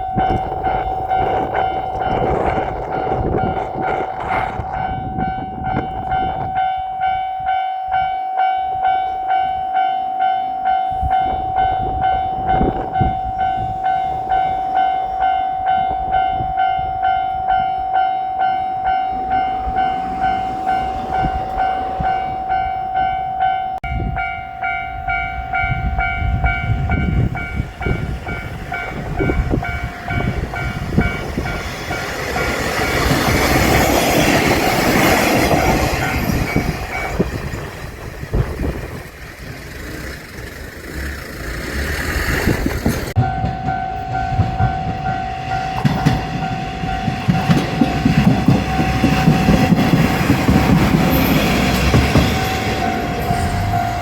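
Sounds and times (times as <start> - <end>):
level-crossing warning bell: 0.0 - 40.9, 42.9 - 54.0
diesel railcar running: 0.0 - 54.0.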